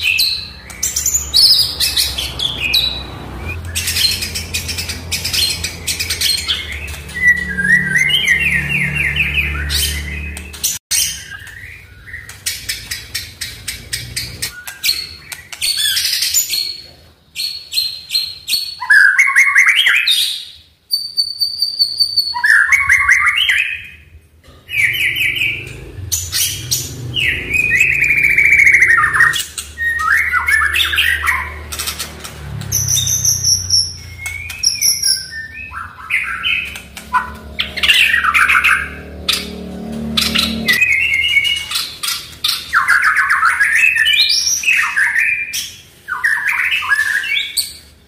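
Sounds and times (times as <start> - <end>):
songbird singing trills and whistles: 0.0 - 16.8, 17.4 - 24.0, 24.8 - 31.8, 32.7 - 38.6, 40.5 - 47.9.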